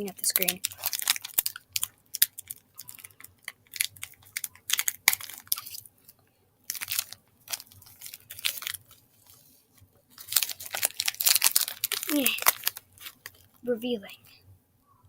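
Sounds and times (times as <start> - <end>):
chewing gummy candy: 0.1 - 5.9, 6.7 - 9.5, 10.2 - 13.6.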